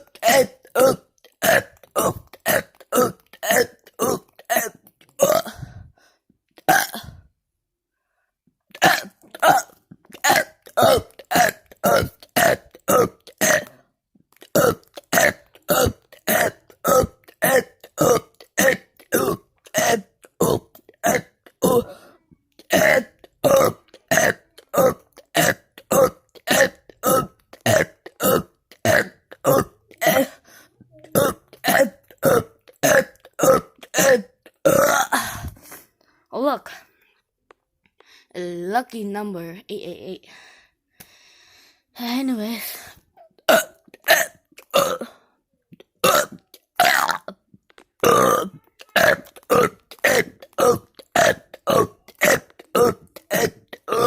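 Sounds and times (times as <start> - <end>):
person burping: 0.0 - 5.9, 6.5 - 7.3, 8.7 - 35.8, 42.9 - 54.0.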